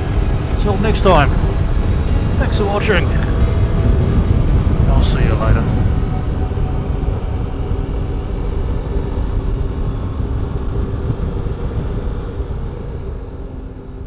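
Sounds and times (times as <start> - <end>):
motorcycle engine cruising: 0.0 - 14.0
road and wind noise: 0.0 - 14.0.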